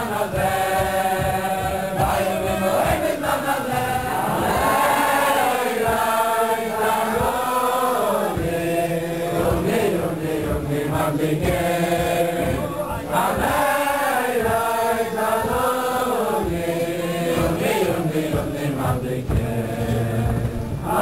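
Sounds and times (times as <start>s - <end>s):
men chanting a slow melody: 0.0s - 21.0s.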